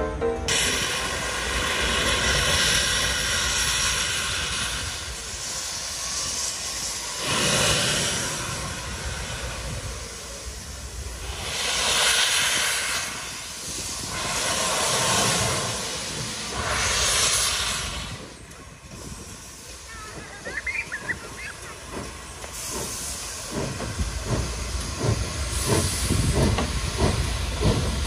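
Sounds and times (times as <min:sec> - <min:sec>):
steam locomotive venting steam: 0:00.5 - 0:28.0.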